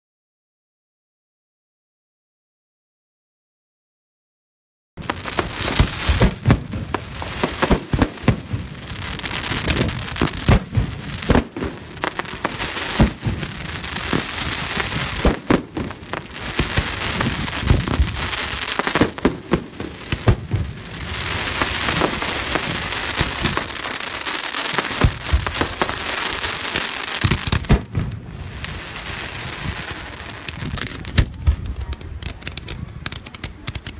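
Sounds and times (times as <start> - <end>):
fireworks bangs: 5.0 - 33.9
fireworks crackling hiss: 5.0 - 33.9.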